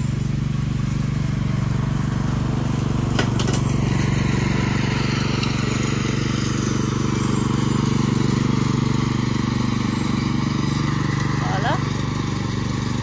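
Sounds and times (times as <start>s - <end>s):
riding lawn mower engine: 0.0s - 13.0s.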